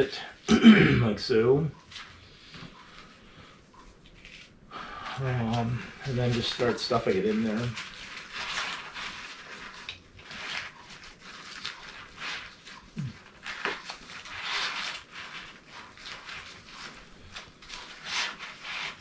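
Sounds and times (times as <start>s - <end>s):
fabric rustling and scraping: 1.8s - 19.0s.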